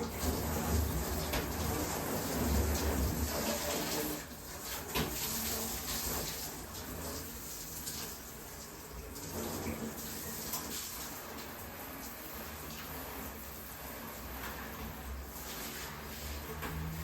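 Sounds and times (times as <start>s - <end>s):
tap water splashing into tub: 0.0s - 13.0s, 16.2s - 17.0s.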